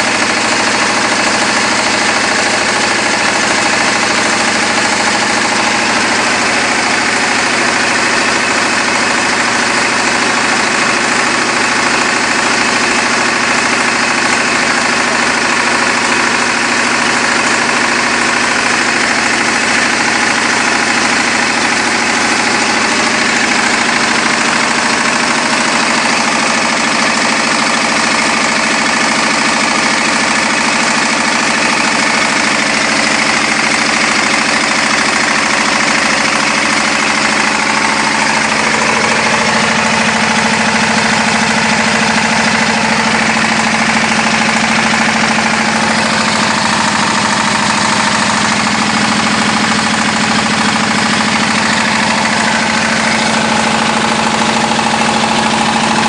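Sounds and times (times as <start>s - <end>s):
diesel generator running: 0.0s - 56.0s.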